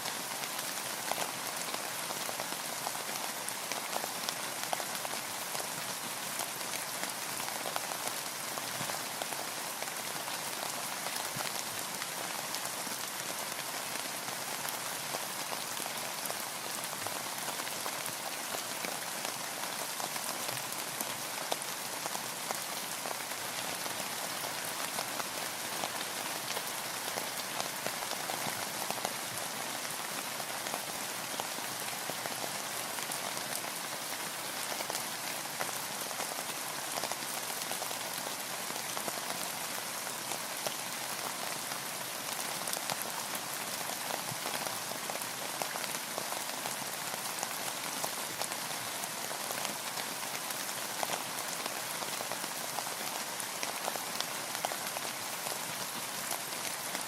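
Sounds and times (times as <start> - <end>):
heavy rain pattering: 0.1 - 57.0.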